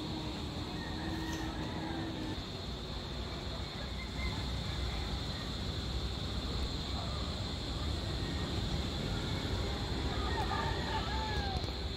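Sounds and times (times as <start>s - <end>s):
constant high drone: 0.0s - 11.9s.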